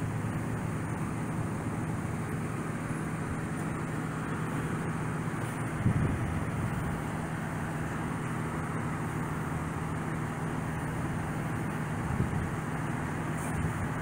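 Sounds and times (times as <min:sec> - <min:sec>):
traffic and idling engines: 0:00.0 - 0:14.0.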